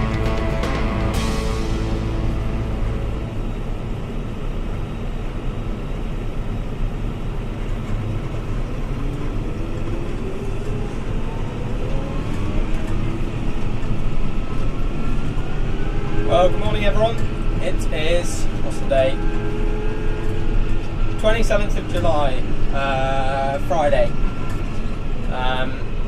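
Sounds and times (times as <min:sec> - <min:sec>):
faint rising whine: 0:00.0 - 0:26.0
tractor engine running: 0:00.0 - 0:26.0.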